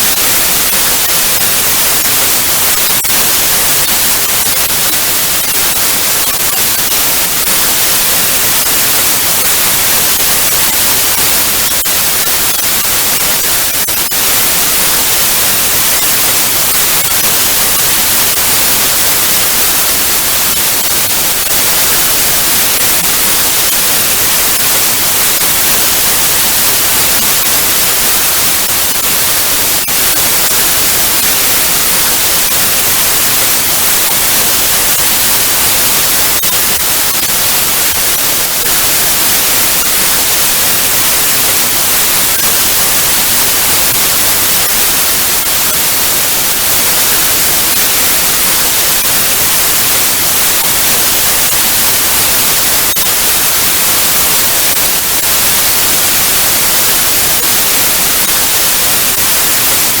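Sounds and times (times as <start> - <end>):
television static hiss: 0.0 - 60.0.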